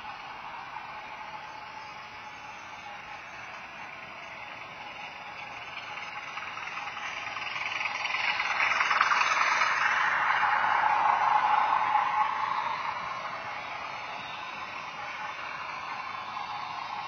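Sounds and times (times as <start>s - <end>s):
model diesel engine sound: 0.0s - 17.0s
wheels rattling over track: 0.0s - 17.0s.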